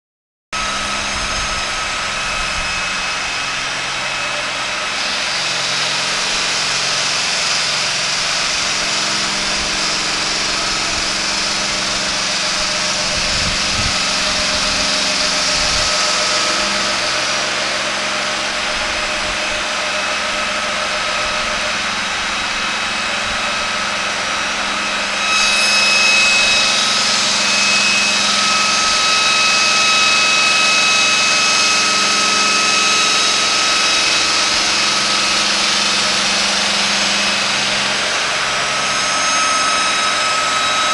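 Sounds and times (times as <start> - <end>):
circular saw blade cutting stone: 0.6 - 40.9
machine hum: 0.6 - 40.9
whining tones: 0.6 - 40.9.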